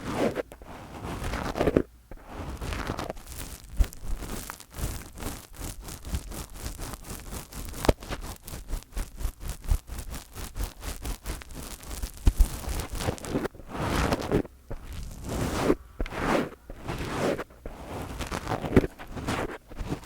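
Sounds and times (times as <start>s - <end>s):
fingers rubbing a microphone: 0.0s - 20.0s.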